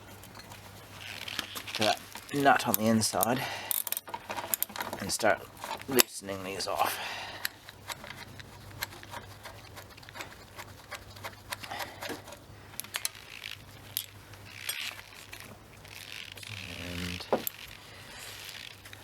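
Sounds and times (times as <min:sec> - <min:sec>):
spanner clicking and scraping on metal: 0:00.2 - 0:19.0.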